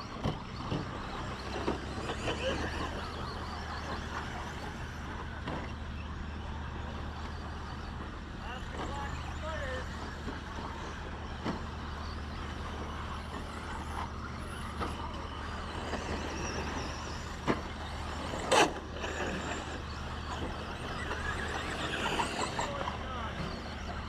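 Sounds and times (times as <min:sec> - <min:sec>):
rc trucks racing: 0:00.0 - 0:24.0
wavering motor whine: 0:00.0 - 0:24.0.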